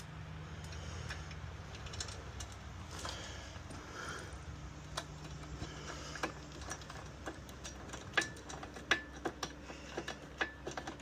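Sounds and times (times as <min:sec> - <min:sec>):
metallic clicks of tools and bolts: 0:00.0 - 0:03.8, 0:04.8 - 0:11.0.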